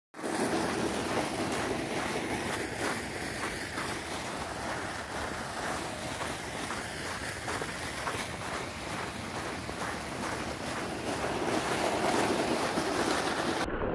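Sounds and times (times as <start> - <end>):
footsteps crunching in snow: 0.2 - 13.5
steady rushing hiss: 0.2 - 13.6.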